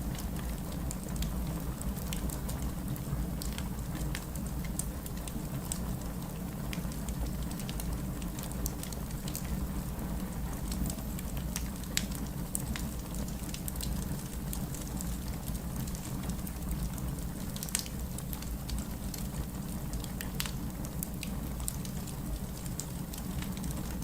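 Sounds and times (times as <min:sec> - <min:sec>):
burning wood crackling and popping: 0:00.0 - 0:24.0.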